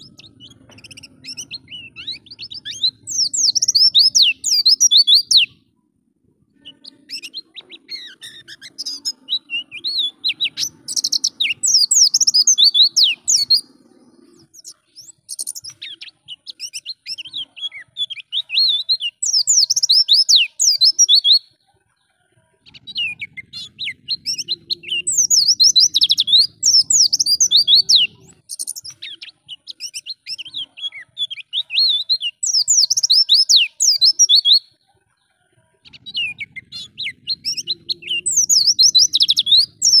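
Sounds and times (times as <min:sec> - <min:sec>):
high twittering birdsong: 0:00.0 - 0:40.0.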